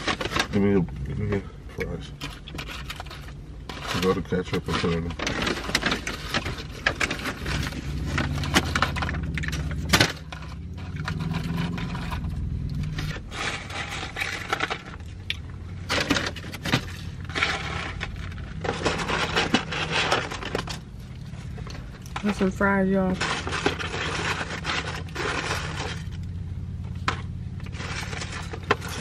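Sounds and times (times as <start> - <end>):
paper bag rustling and crinkling: 0.0 - 1.2, 2.0 - 29.0
low hum: 5.6 - 29.0.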